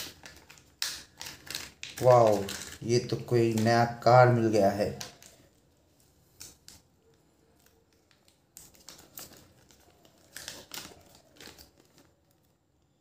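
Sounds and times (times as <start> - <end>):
paper crinkling and rustling: 0.0 - 12.9.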